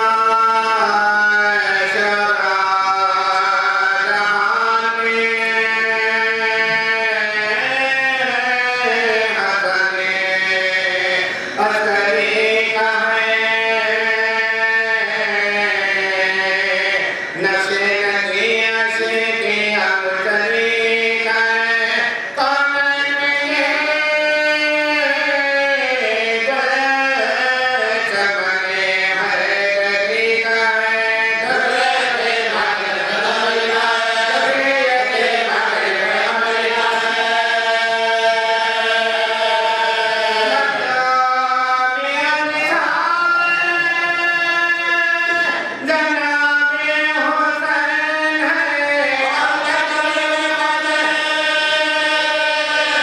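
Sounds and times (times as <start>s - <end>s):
man chanting into a microphone: 0.0s - 53.0s.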